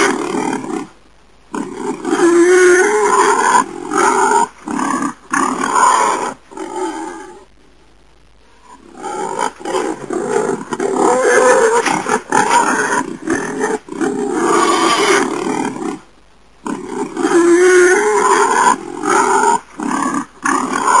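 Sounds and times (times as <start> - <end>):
wild boar calling: 1.5 - 7.4, 8.6 - 16.0, 16.6 - 21.0.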